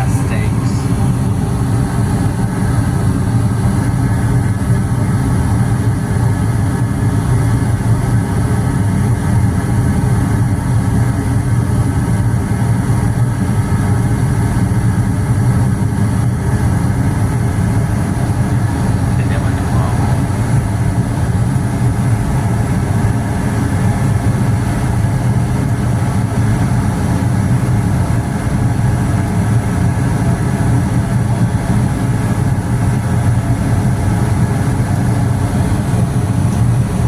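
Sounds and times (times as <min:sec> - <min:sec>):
gas furnace humming: 0:00.0 - 0:37.0.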